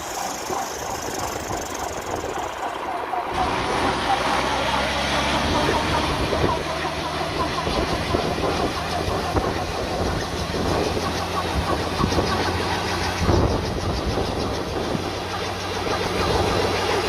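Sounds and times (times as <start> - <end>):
rapid rhythmic clatter: 0.0 - 3.5, 4.5 - 17.0
engine running steadily: 0.0 - 17.0.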